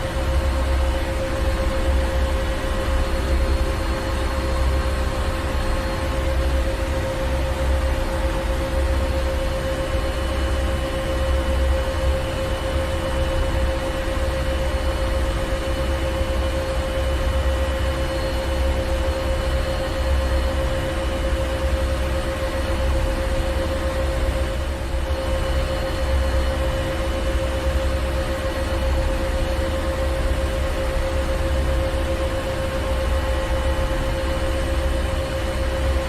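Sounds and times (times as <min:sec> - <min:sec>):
constant droning hum: 0:00.0 - 0:36.0.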